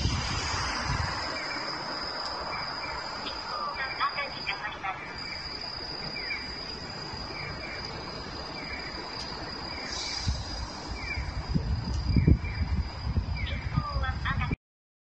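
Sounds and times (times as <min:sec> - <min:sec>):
low rumble: 0:00.0 - 0:03.8, 0:05.2 - 0:14.5
pedestrian signal chirps: 0:01.2 - 0:14.6.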